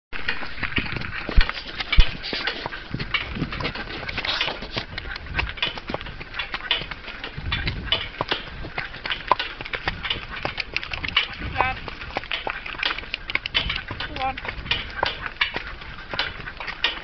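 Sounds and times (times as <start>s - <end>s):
horse hooves clip-clopping: 0.1s - 17.0s
carriage rattling and clicking: 0.2s - 17.0s.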